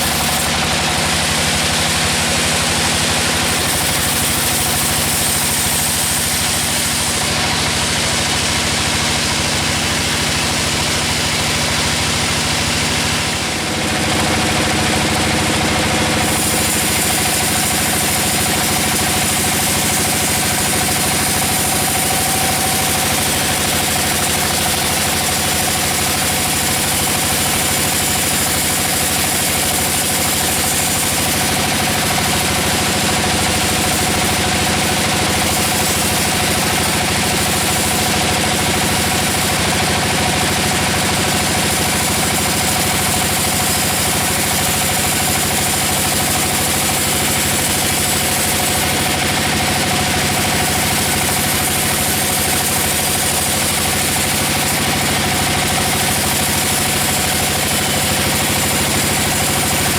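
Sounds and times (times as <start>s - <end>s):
sawmill saw and engine running: 0.0s - 59.9s.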